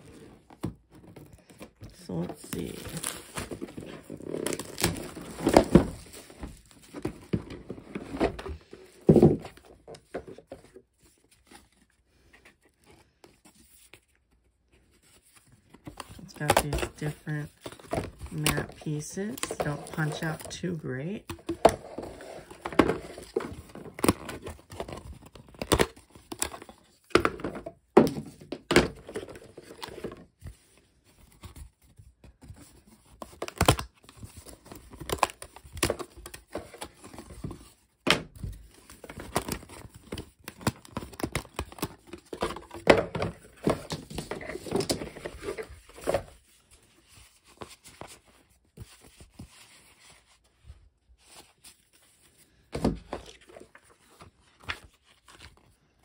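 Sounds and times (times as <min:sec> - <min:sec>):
cardboard rustling and scraping: 0:00.0 - 0:56.0.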